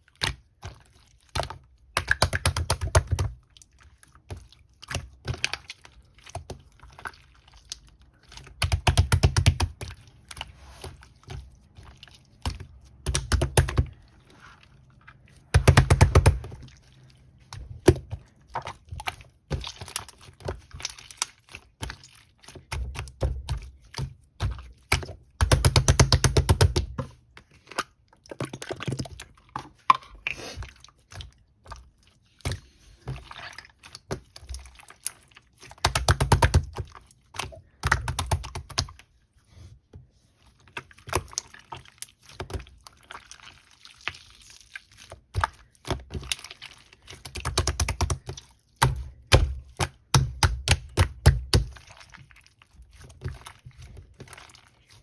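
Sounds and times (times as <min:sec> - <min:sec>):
slime squished by hand: 0:00.2 - 0:39.1, 0:40.5 - 0:55.0.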